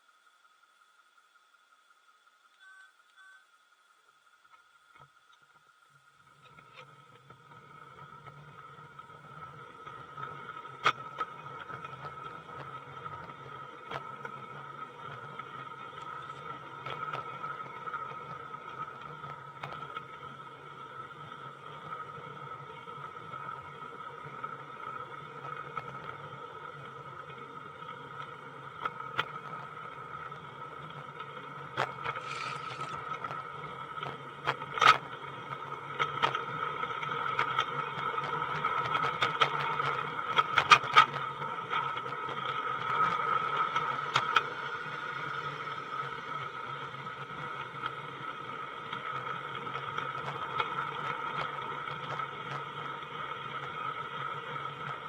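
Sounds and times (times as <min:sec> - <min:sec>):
model train running drone: 0:05.7 - 0:55.0.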